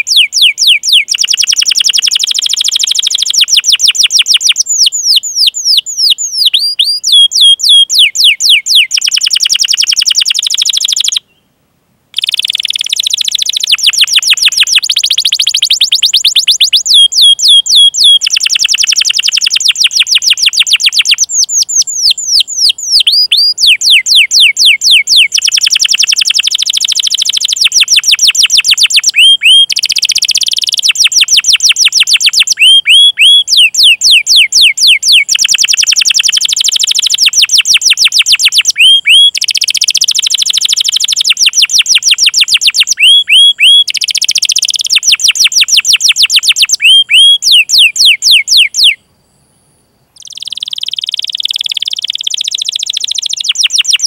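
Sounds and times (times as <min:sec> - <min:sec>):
canary singing chirps and trills: 0:00.0 - 0:11.4, 0:12.1 - 0:49.0, 0:50.2 - 0:54.0.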